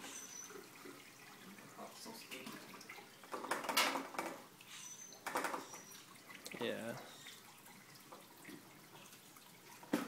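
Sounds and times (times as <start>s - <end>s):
liquid trickling into a carboy: 0.0s - 10.0s.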